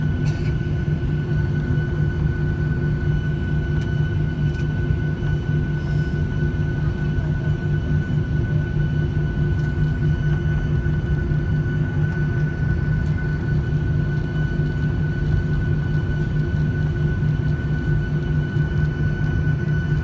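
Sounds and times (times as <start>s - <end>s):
jet engine hum and whine: 0.0s - 20.0s.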